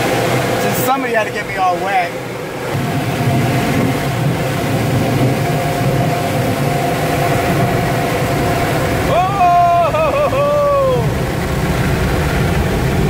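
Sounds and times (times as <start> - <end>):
car wash air dryer blowers: 0.0 - 13.0.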